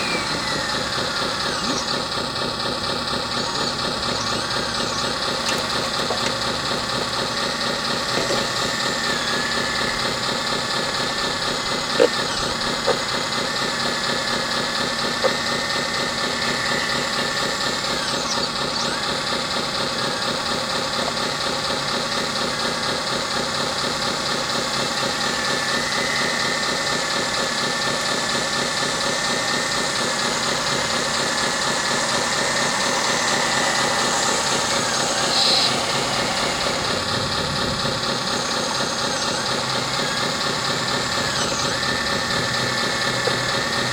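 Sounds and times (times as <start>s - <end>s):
model excavator hum and whine: 0.0s - 43.9s.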